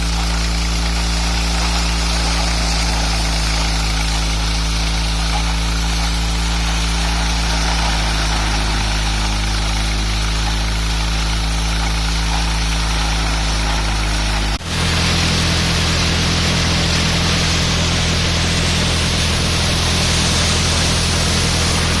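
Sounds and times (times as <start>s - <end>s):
rushing hiss: 0.0s - 22.0s
threshing machine droning: 0.0s - 22.0s.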